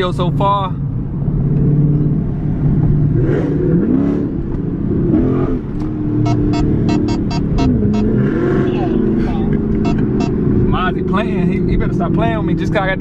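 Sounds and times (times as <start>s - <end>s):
car engine revving: 1.0s - 13.0s.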